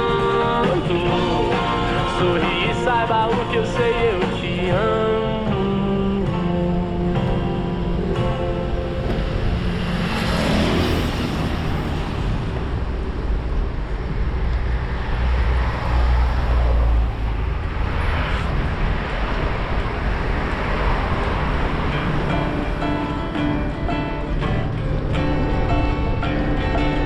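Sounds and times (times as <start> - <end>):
heavy low rumble: 0.0 - 27.0
vehicles passing: 0.0 - 27.0.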